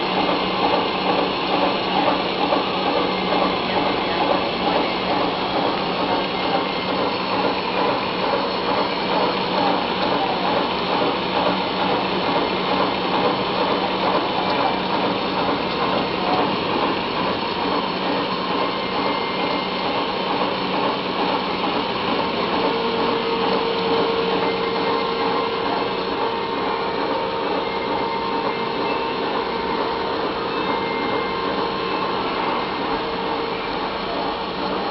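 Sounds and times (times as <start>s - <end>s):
coolant oil hissing: 0.0s - 34.9s
high steady hum: 0.0s - 34.9s
milling machine whirring: 0.0s - 34.9s.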